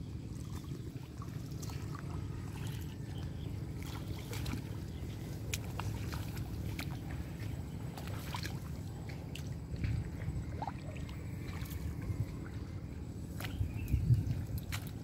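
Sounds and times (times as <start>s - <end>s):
steady low rumble: 0.0s - 15.0s
water sloshing and splashing: 0.0s - 15.0s.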